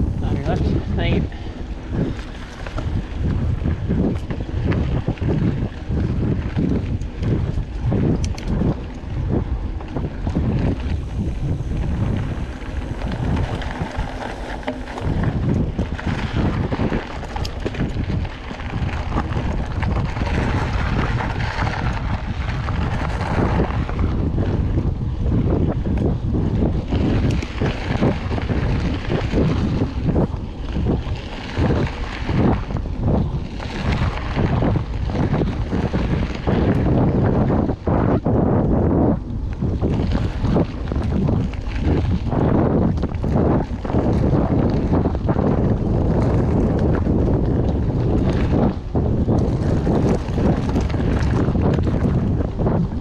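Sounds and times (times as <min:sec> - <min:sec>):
tyres rolling on dirt: 0:00.0 - 0:38.9, 0:39.5 - 0:53.0
bike rattling over bumps: 0:00.0 - 0:53.0
wind buffeting microphone: 0:00.0 - 0:53.0.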